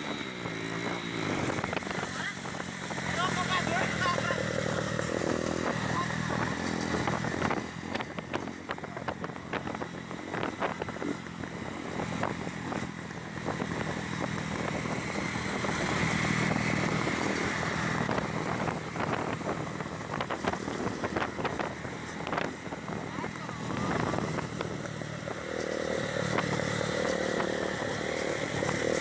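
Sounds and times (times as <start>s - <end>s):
motorcycle engine running: 0.0s - 29.0s
wind crackling on microphone: 0.0s - 29.0s.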